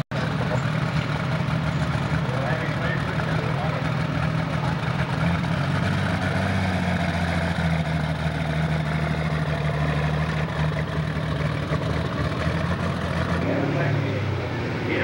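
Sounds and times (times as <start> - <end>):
tractor engine running at low revs: 0.0 - 15.0.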